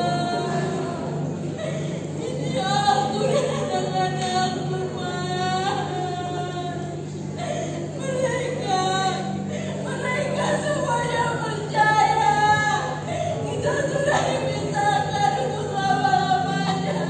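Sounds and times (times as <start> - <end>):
steady low hum: 0.0 - 17.0
woman singing: 0.0 - 17.0.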